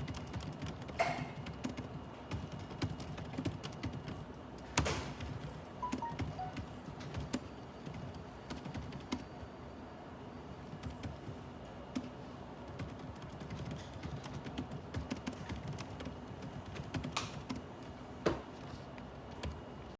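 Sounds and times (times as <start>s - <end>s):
computer keyboard typing: 0.0s - 9.3s, 10.7s - 17.9s, 19.2s - 19.9s.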